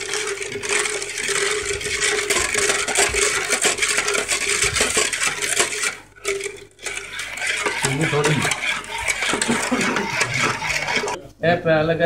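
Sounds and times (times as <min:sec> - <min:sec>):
spoon scraping and clinking in pot: 0:00.0 - 0:11.2.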